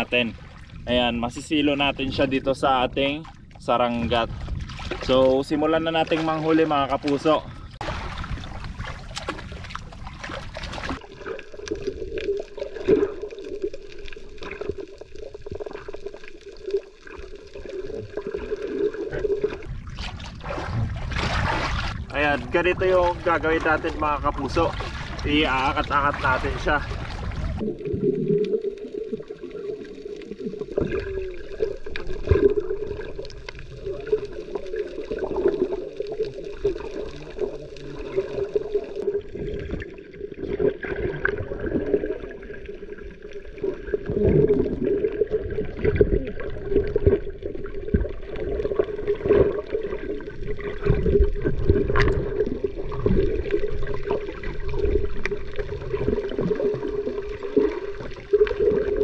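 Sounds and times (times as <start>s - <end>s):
sea water sloshing: 0.0s - 59.0s.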